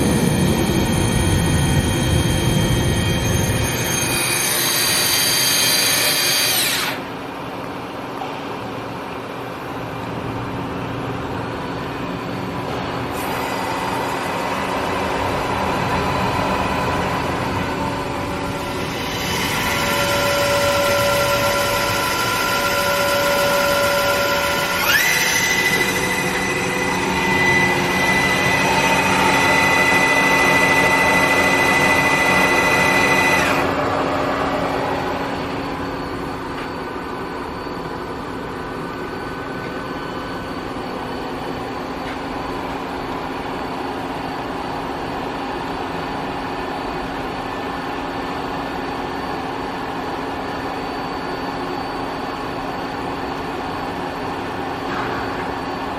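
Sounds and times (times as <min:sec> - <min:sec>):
lathe mechanical whine: 0:00.0 - 0:55.9.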